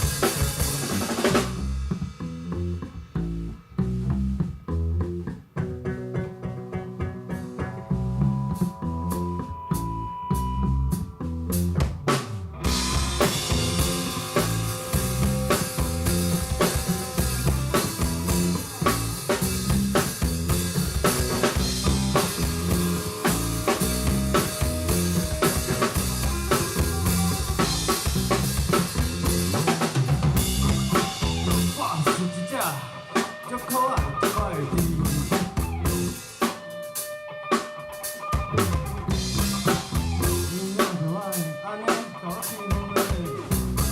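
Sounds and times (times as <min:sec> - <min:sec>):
drum kit beat: 0:00.0 - 0:43.9
live band playing: 0:00.0 - 0:43.9.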